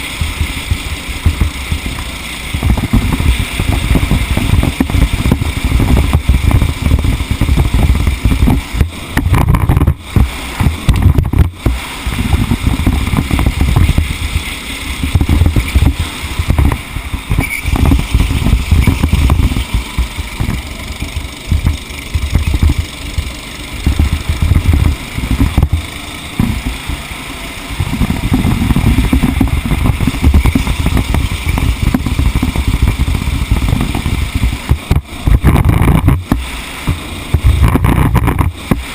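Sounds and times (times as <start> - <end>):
road and wind rumble: 0.0 - 38.9
vehicle engine: 0.0 - 38.9.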